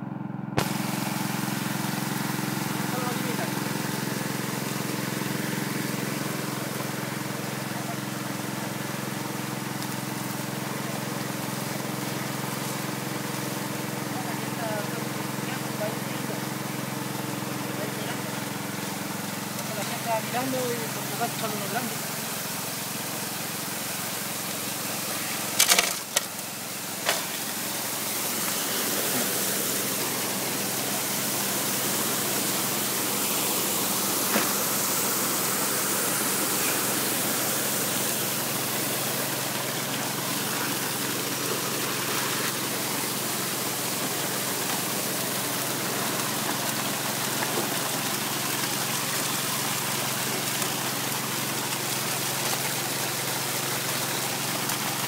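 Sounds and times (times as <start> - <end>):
muddy water gushing through sluice: 0.0 - 55.0
water pump engine hum: 0.0 - 55.0.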